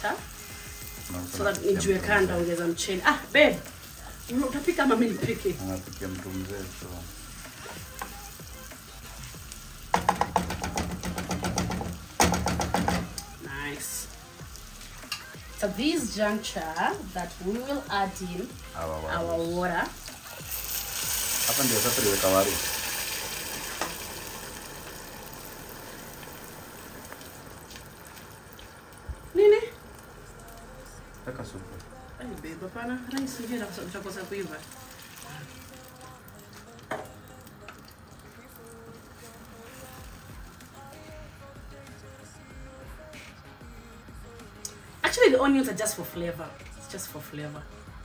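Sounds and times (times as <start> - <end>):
frying sizzle: 0.0 - 48.0.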